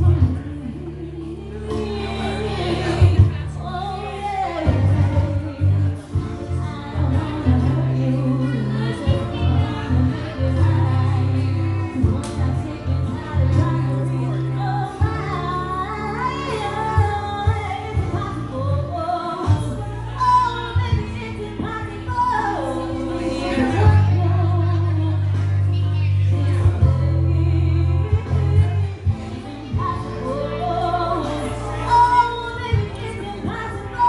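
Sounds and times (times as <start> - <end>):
woman singing: 0.0 - 34.0.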